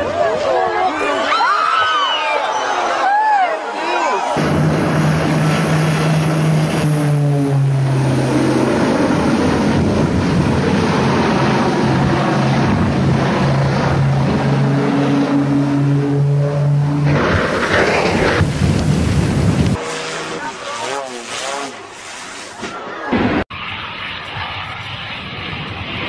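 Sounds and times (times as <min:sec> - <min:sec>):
propeller airplane engines droning: 0:04.2 - 0:26.0.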